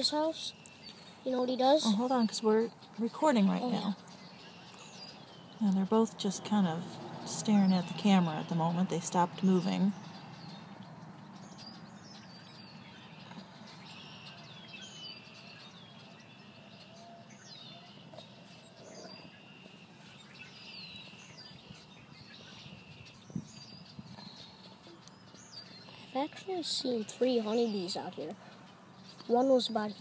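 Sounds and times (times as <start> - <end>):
birds chirping: 0.0 - 30.0
low outdoor hum: 0.0 - 30.0.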